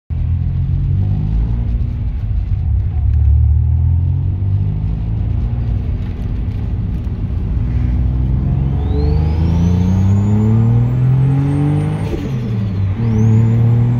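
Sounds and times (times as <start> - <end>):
car engine revving: 0.1 - 13.9.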